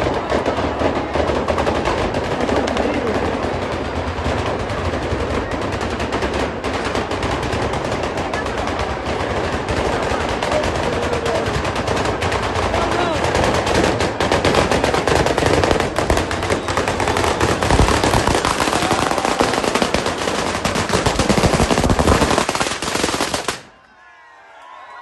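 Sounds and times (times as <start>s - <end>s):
chain of firecrackers crackling: 0.0s - 23.8s.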